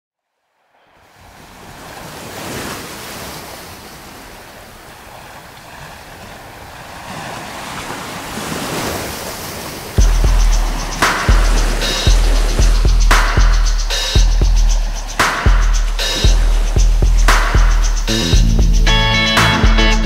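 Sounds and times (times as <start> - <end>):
wind: 0.2 - 20.0
sea waves rushing: 0.6 - 20.0.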